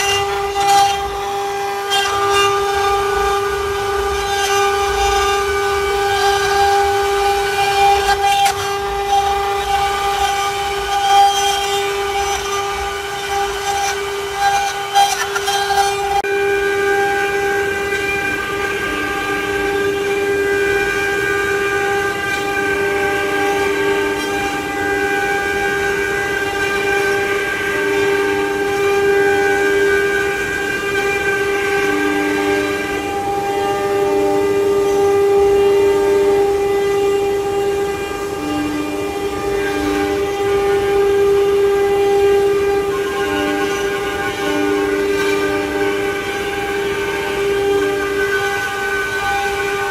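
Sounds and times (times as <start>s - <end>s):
router spindle whining: 0.0s - 49.9s.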